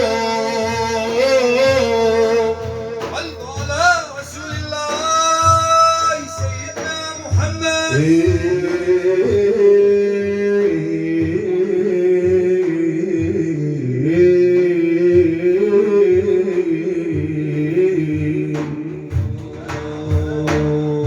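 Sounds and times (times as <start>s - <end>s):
hand drum beats: 0.0s - 21.0s.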